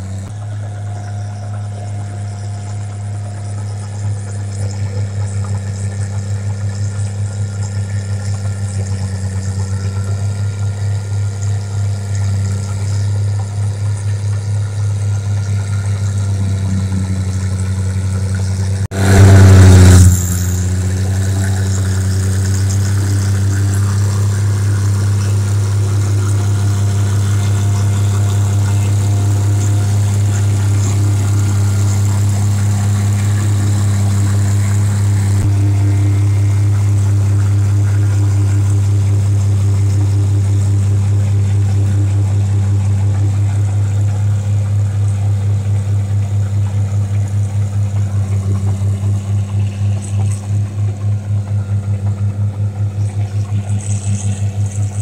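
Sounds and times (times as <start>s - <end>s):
machine engine throbbing hum: 0.0s - 55.0s.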